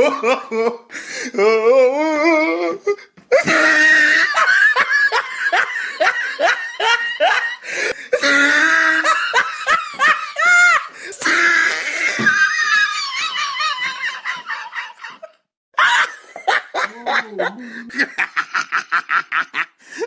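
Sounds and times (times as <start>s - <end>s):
person laughing hard: 0.0s - 0.9s, 3.3s - 19.8s.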